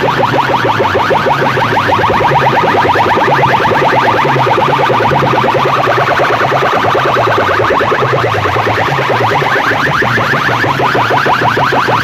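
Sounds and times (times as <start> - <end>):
loud electronic chirps: 0.0 - 12.0.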